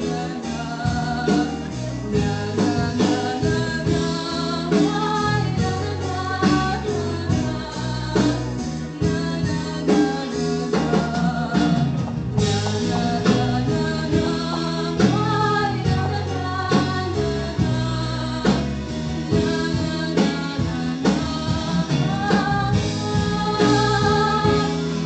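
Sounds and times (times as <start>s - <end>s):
backing track with guitar and beat: 0.0s - 25.0s
woman singing: 0.0s - 25.0s.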